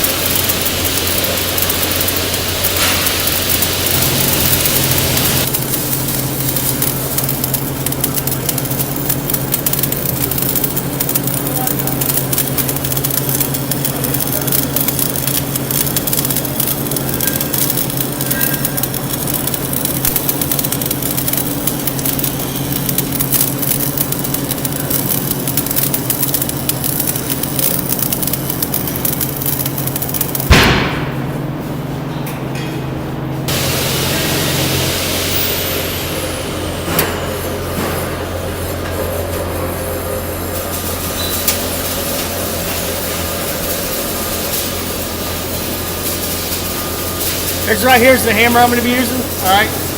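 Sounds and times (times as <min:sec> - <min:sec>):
steady hiss: 0:00.0 - 0:31.2, 0:33.5 - 0:36.5, 0:39.9 - 0:49.9
welding arc crackling: 0:00.0 - 0:32.1, 0:33.3 - 0:49.9.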